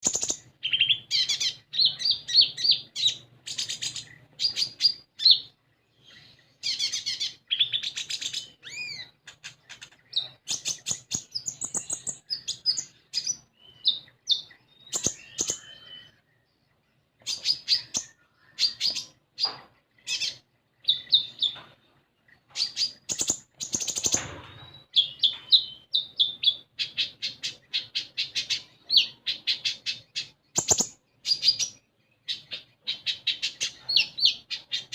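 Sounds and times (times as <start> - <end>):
bird chirping and trilling: 0.0 - 34.9.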